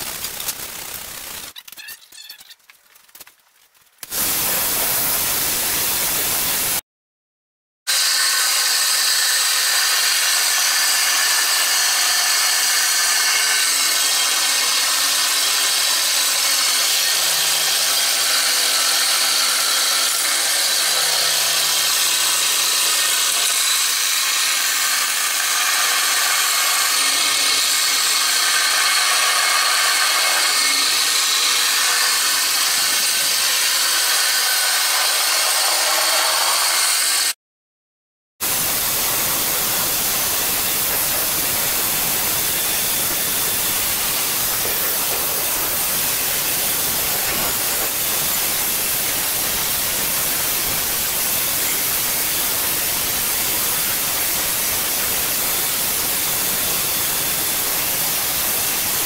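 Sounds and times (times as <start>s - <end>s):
belt grinder grinding steel: 7.9s - 37.4s, 38.4s - 59.0s.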